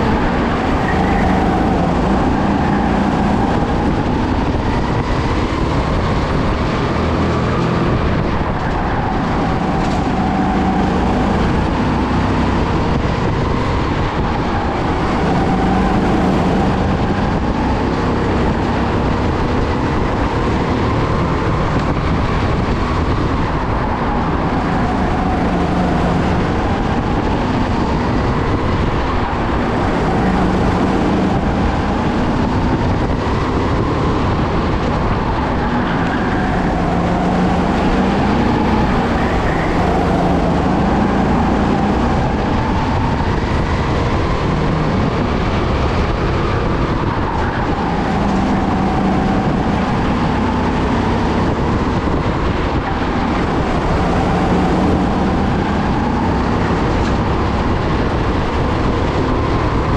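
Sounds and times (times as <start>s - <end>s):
go-kart engine revving: 0.0s - 59.9s
noisy rumble: 0.0s - 59.9s.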